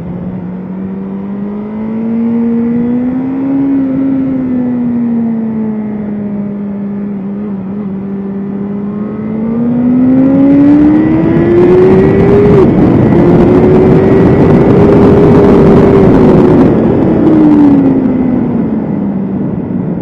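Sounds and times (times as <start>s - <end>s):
motorcycle engine accelerating: 0.0s - 20.0s
wind rush: 0.0s - 20.0s.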